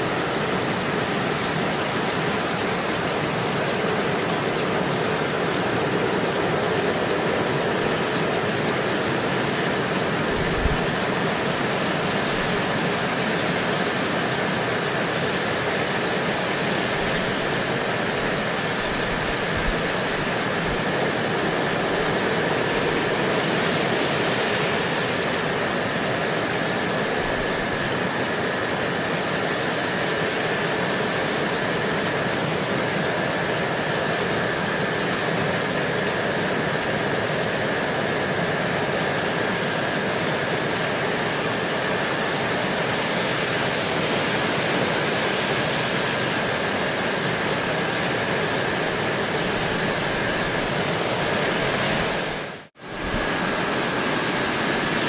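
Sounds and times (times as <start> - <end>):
gentle steady rain: 0.0 - 55.0.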